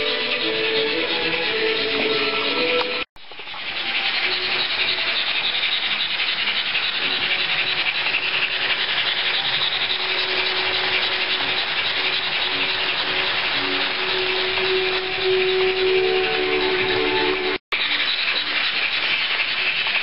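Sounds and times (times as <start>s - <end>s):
model train steam chuffing: 0.0s - 20.0s.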